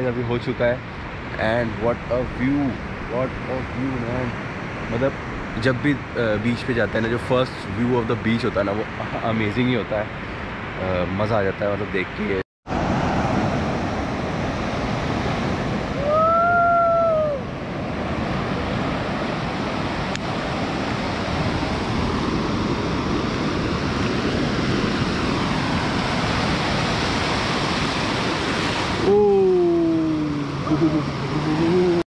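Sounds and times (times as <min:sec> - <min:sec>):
surf washing on beach: 0:00.0 - 0:11.6, 0:12.2 - 0:32.0.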